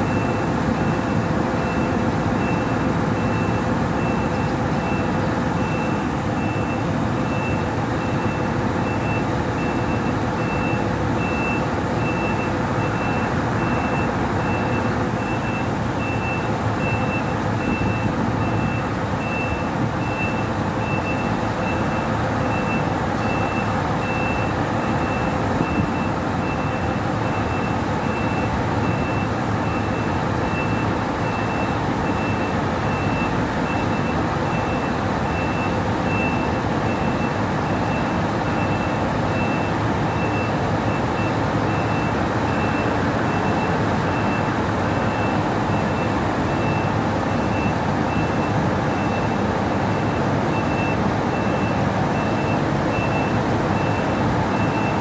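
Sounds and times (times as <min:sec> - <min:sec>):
diesel engine rumble: 0:00.0 - 0:55.0
truck reverse alarm beeps: 0:00.0 - 0:55.0.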